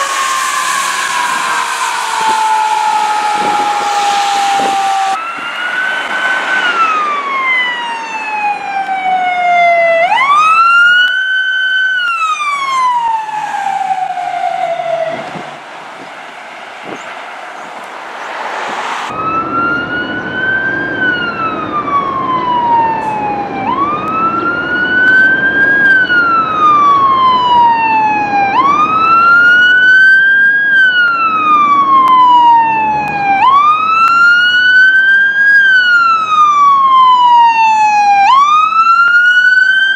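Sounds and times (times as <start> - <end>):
emergency sirens wailing: 0.0 - 39.9
low rumble of traffic: 0.0 - 39.9.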